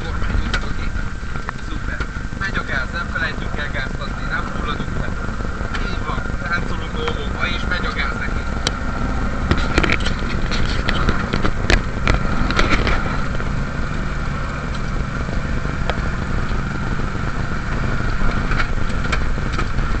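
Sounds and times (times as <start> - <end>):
cab knocking and rattling: 0.0 - 20.0
truck engine under throttle: 0.0 - 20.0.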